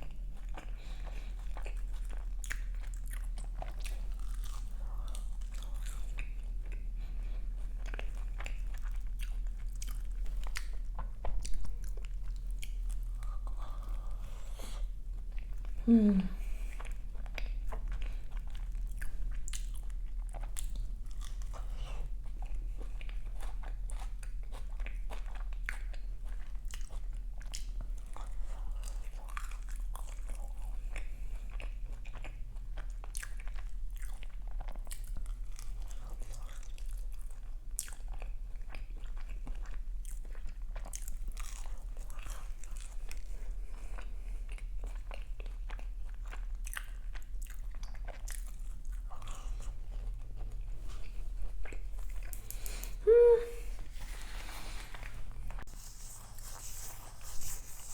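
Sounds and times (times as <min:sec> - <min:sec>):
person chewing crisp pastry: 0:00.0 - 0:57.9.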